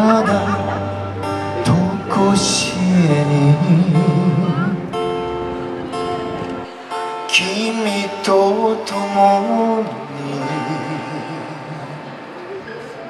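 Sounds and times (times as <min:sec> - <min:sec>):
man singing long notes: 0:00.0 - 0:05.0, 0:07.2 - 0:13.0
acoustic guitar strumming: 0:00.0 - 0:13.0.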